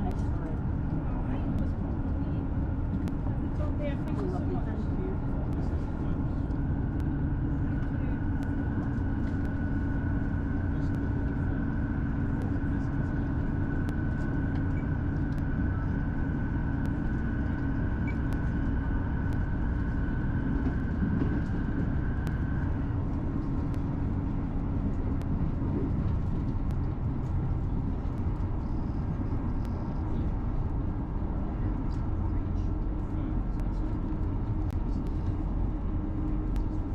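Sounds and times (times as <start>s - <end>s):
train diesel engine drone: 0.0s - 36.9s
train wheels on rail: 0.0s - 36.9s.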